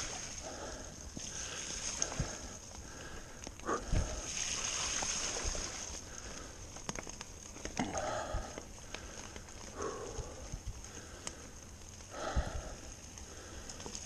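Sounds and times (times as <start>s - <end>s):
bike clicks and knocks over bumps: 0.0s - 14.0s
bike tyres rolling on dirt trail: 0.0s - 14.0s
rustling leaves: 0.0s - 14.0s.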